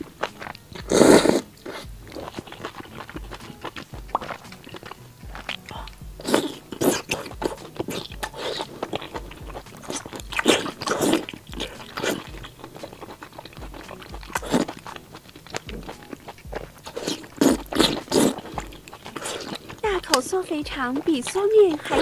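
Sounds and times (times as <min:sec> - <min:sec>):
wet slurping and chewing: 0:00.0 - 0:22.0.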